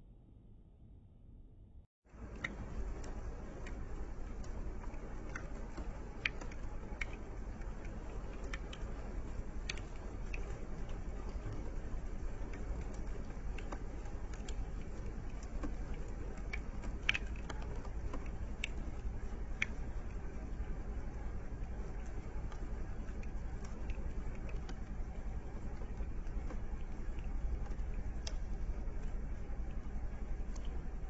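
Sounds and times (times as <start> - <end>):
steady low rumble: 0.8 - 31.0
raindrops ticking on a vehicle: 2.2 - 31.0.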